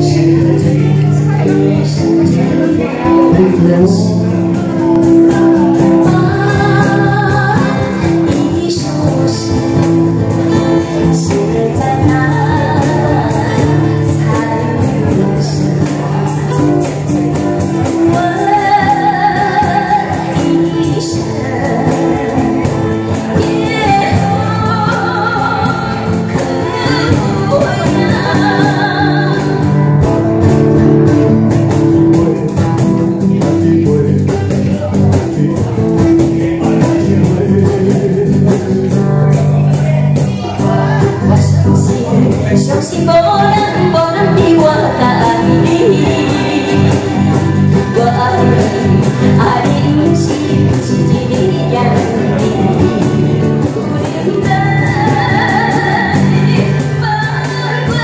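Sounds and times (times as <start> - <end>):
acoustic guitar: 0.0 - 58.0
cajon: 0.0 - 58.0
electric guitar: 0.0 - 58.0
woman singing into microphone: 0.0 - 58.0.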